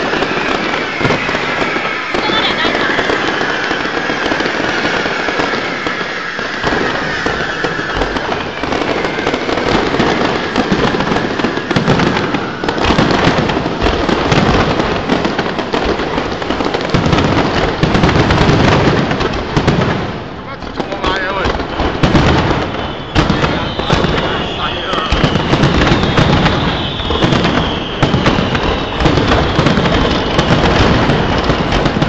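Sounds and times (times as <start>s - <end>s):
deep firework booms: 0.0s - 32.0s
falling firework whistle: 0.0s - 32.0s
fireworks crackling and banging: 0.0s - 32.0s.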